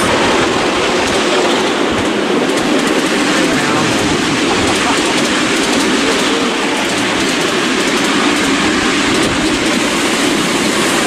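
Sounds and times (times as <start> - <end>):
train wheels rumbling: 0.0 - 11.0
wheels clicking over rail joints: 0.0 - 11.0.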